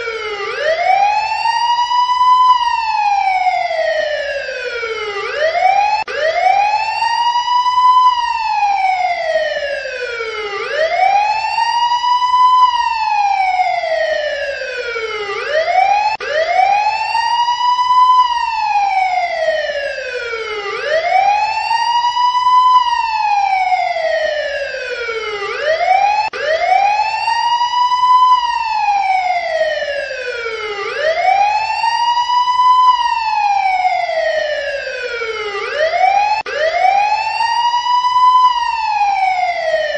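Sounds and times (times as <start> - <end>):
emergency vehicle siren wailing: 0.0 - 39.9.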